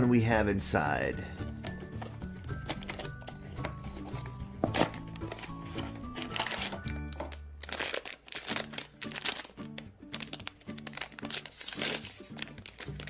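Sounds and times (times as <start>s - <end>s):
background music: 0.0s - 13.0s
packaging crinkling: 2.0s - 13.0s.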